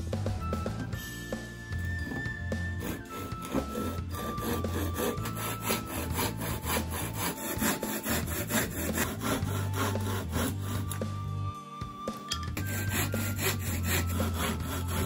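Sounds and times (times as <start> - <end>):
hand saw cutting wood: 1.8 - 11.3, 12.3 - 15.0.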